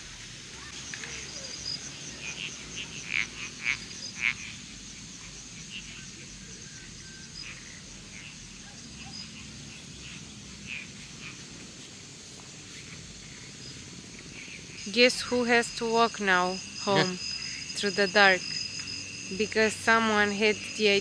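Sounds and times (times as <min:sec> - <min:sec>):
frogs croaking: 0:00.0 - 0:21.0
high insect trill: 0:00.0 - 0:21.0.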